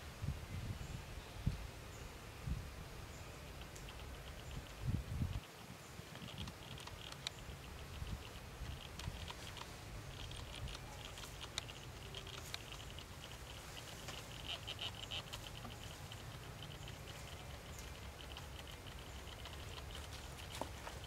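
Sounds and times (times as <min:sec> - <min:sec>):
rapidly pulsing high chirring: 0:03.4 - 0:21.0
light clicks: 0:03.6 - 0:21.0.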